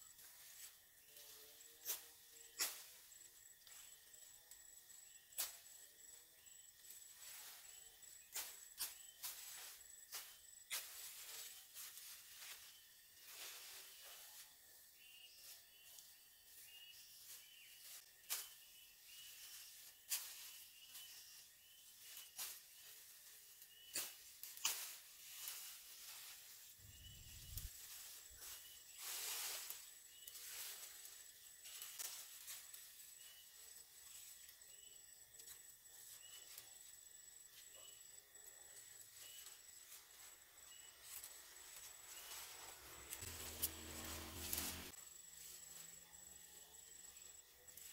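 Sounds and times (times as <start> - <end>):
insects chirping: 0.0 - 47.9.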